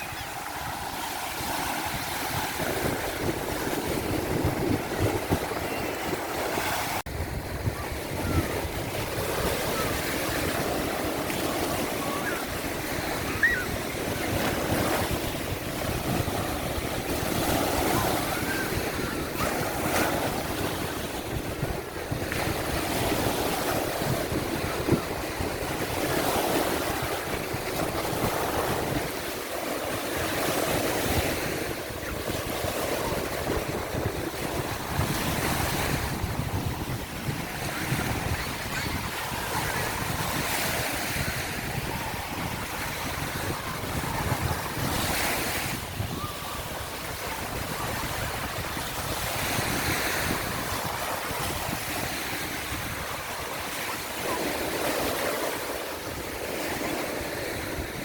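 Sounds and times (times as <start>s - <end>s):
ocean waves breaking: 0.0s - 58.0s
wind buffeting microphone: 0.0s - 58.0s.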